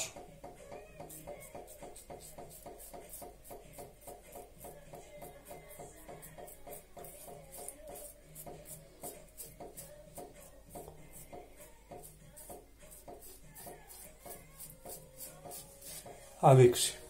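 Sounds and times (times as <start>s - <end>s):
razor scraping stubble: 1.0s - 16.3s.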